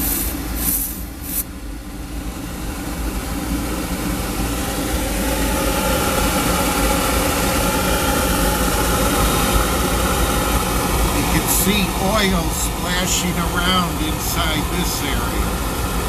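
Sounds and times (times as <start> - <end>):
faint steady whine: 0.0 - 16.0
oil burner running: 0.0 - 16.0.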